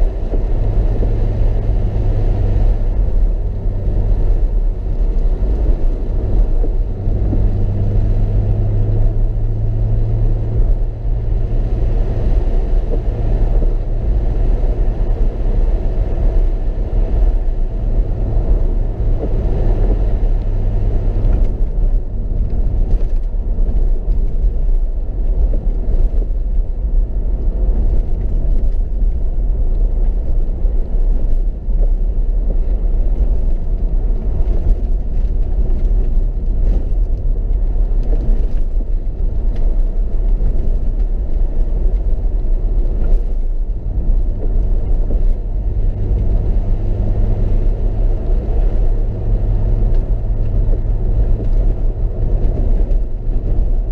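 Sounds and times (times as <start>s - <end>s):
car engine rumble in cabin: 0.0s - 53.9s
road noise on wet road: 0.0s - 53.9s.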